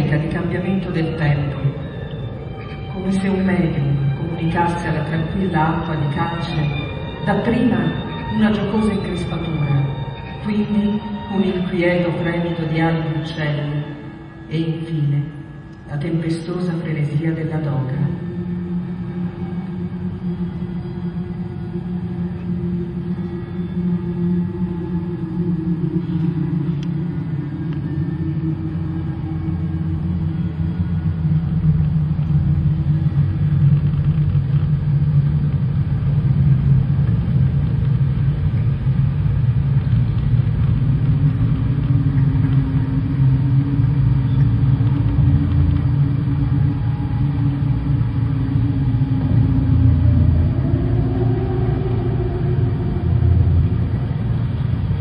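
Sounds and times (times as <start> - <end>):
low rumbling drone: 0.0 - 55.0
slow held tones: 0.0 - 55.0.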